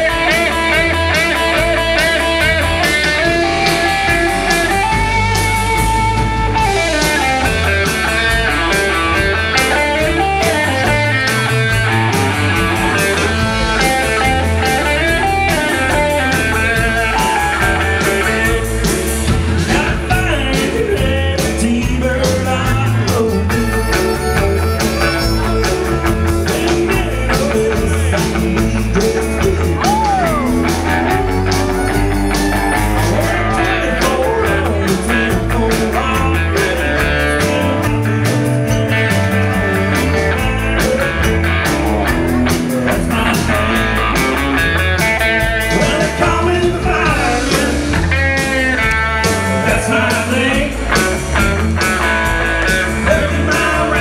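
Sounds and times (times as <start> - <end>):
person singing: 0.0 - 44.8, 45.6 - 54.0
country band playing: 0.0 - 54.0.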